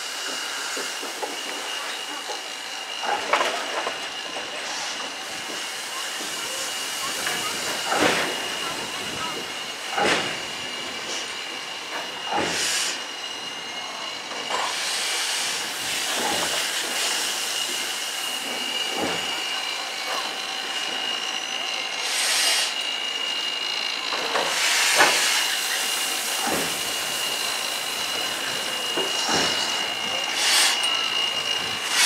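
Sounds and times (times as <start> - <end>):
bursts of steam hiss: 0.0 - 21.2, 22.0 - 22.9, 24.1 - 32.0
steam hissing: 0.0 - 32.0.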